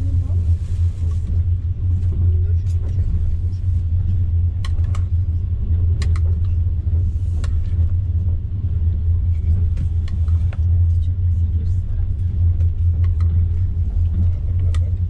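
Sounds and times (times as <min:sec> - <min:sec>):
vehicle rumble from inside: 0:00.0 - 0:15.0.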